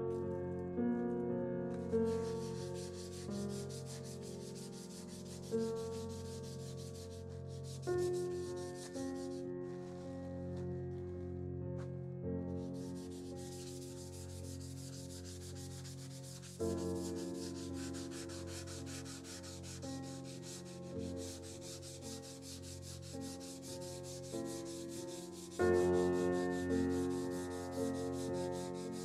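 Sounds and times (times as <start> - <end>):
sandpaper rasping on saw blade: 2.1 - 10.1, 12.6 - 29.0.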